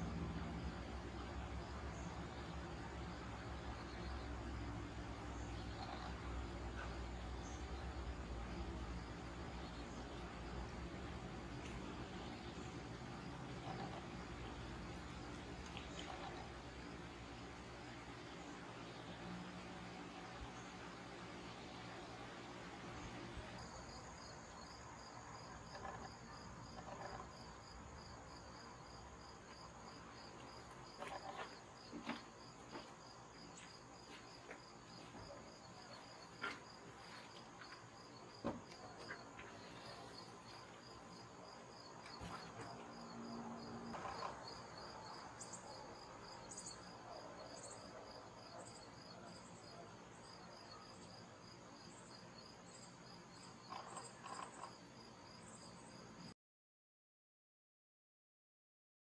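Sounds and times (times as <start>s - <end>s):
crickets pulsed chirping: 0.0s - 56.3s.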